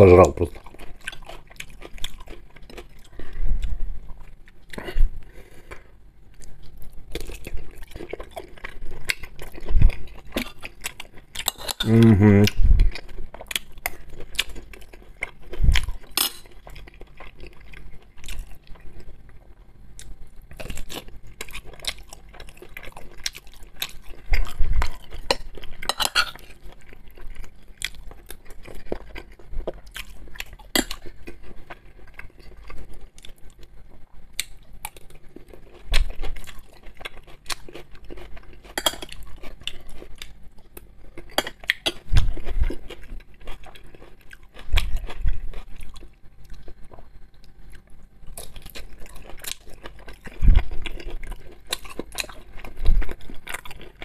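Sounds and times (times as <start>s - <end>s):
chewing: 0.2s - 54.0s.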